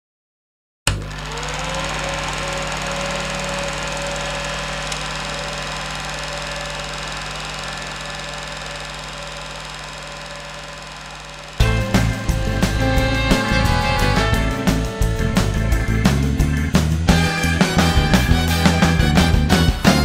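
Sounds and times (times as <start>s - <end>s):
film projector whirring and rattling: 0.9s - 20.0s.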